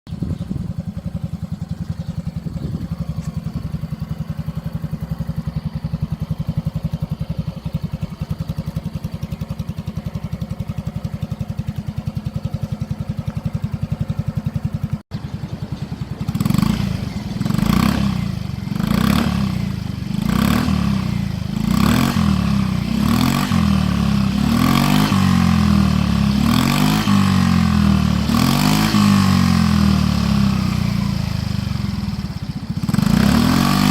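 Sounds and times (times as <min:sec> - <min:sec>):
scooter engine idling: 0:00.1 - 0:33.9
scooter engine revving: 0:00.1 - 0:33.9.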